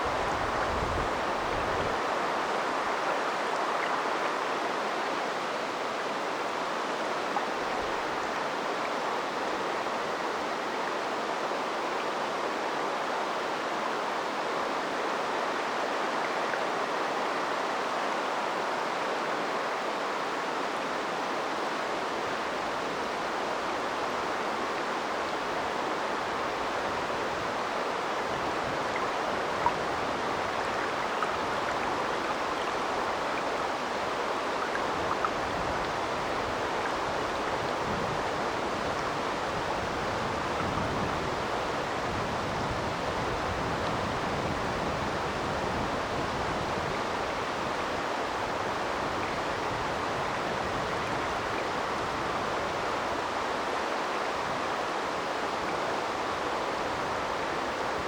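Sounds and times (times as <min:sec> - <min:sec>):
stream flowing over its bed: 0:00.0 - 0:58.0.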